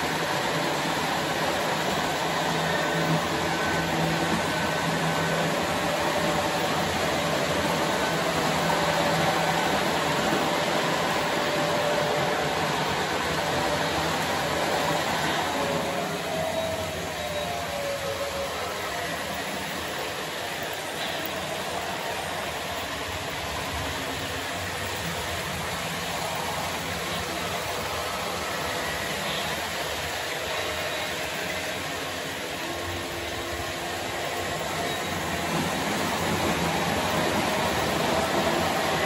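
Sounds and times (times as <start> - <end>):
locomotive motor whine: 0.0 - 39.0
model train wheels rumbling: 0.0 - 39.0.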